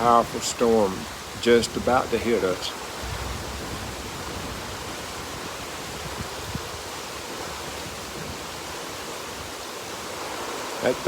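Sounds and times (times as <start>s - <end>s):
stormy weather rushing noise: 0.0s - 11.0s.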